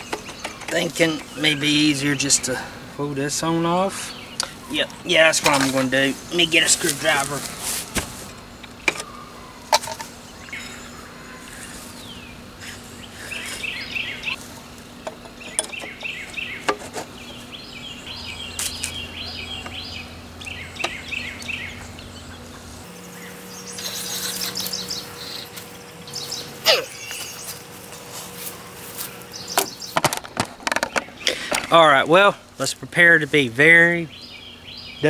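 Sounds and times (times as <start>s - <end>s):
bird chirping: 0.0s - 7.4s, 8.4s - 14.4s, 15.0s - 30.1s, 30.7s - 35.0s.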